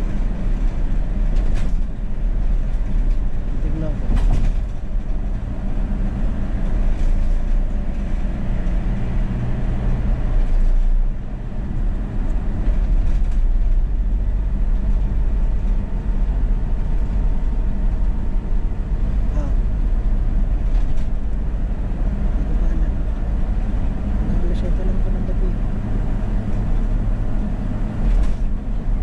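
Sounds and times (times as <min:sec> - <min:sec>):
car engine hum: 0:00.0 - 0:29.0
tyres rumbling on road: 0:00.0 - 0:29.0.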